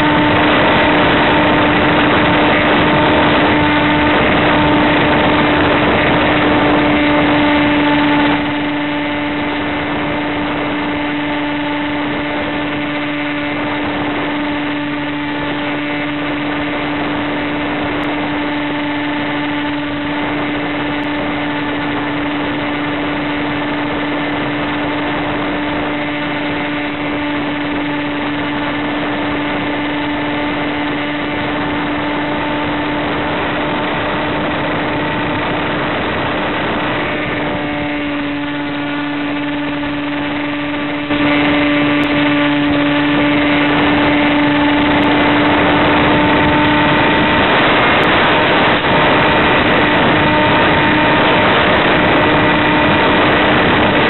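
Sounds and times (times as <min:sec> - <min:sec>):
electric motor and propeller hum: 0:00.0 - 0:54.0
rush of air: 0:00.0 - 0:54.0.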